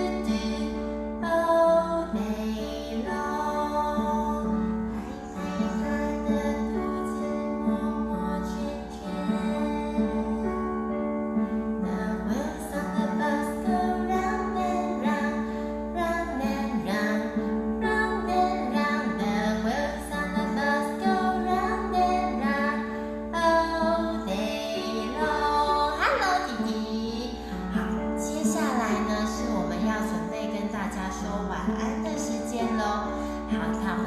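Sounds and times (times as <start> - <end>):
guitar accompaniment: 0.0 - 34.0
woman singing a lullaby: 0.0 - 34.0.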